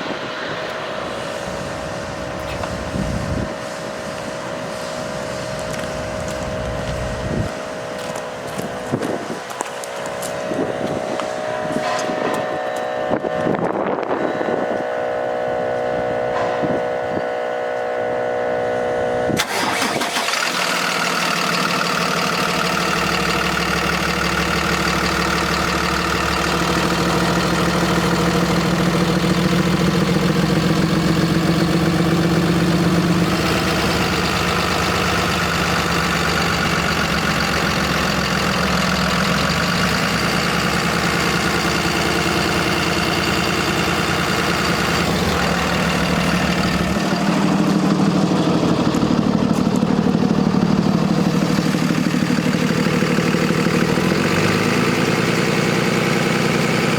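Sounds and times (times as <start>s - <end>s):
diesel engine starting and idling: 0.0s - 56.9s.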